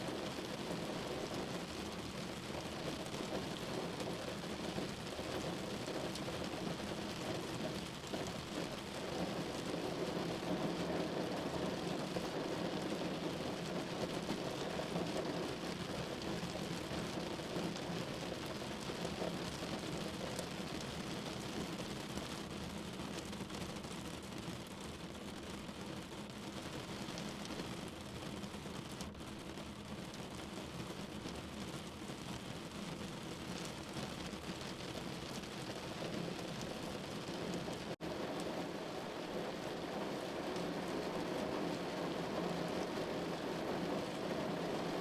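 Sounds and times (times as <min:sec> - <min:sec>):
rain on a window: 0:00.0 - 0:45.0.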